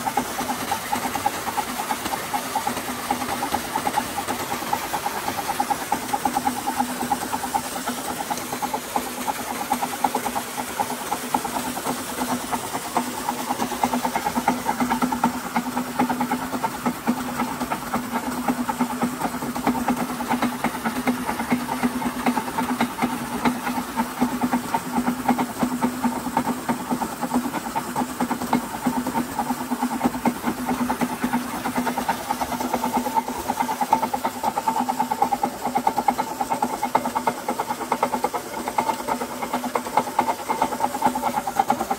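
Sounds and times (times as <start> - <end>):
machine humming and rattling: 0.0 - 41.9
water gushing from pump: 0.0 - 41.9.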